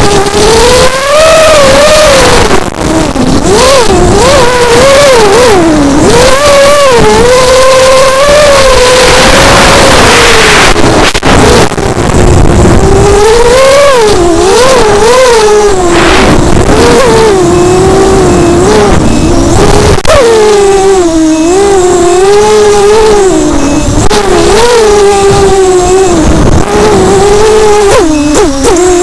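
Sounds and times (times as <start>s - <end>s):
drone motors whining: 0.0s - 29.0s
wind noise: 0.0s - 29.0s.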